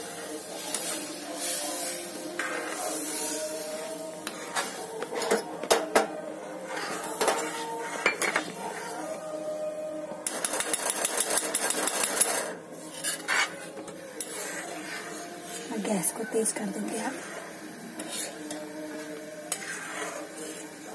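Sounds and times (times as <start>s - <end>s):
spatula scraping pan: 0.5s - 5.8s, 6.6s - 9.1s, 10.2s - 20.9s.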